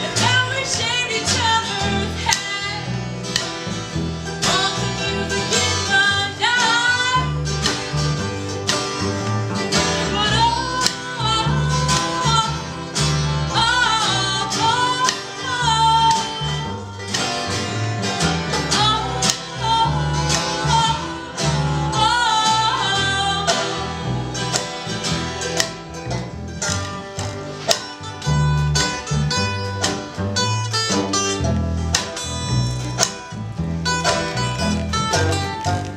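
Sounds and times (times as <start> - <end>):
acoustic string band playing: 0.0 - 35.9.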